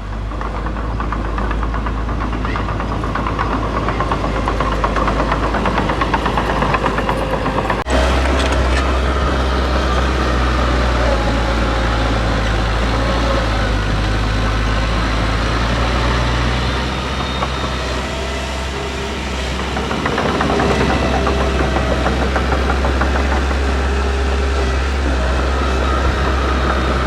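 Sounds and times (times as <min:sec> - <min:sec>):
heavy diesel engine humming: 0:00.0 - 0:27.0.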